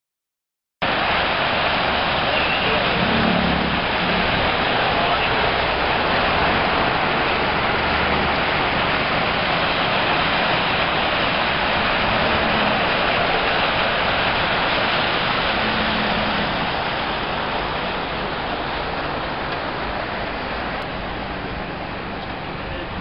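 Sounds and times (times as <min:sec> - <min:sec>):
water splashing down a fountain: 0:00.8 - 0:23.0.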